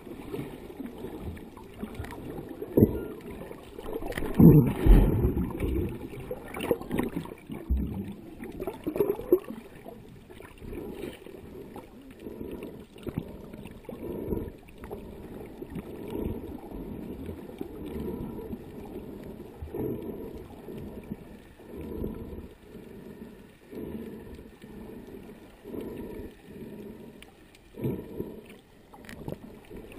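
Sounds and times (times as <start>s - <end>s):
muffled underwater water noise: 0.0s - 29.9s.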